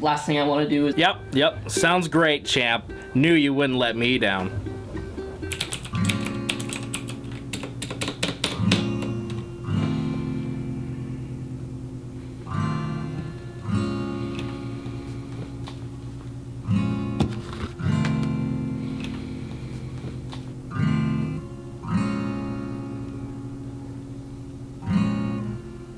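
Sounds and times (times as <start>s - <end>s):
acoustic guitar strumming chords: 0.0s - 25.9s.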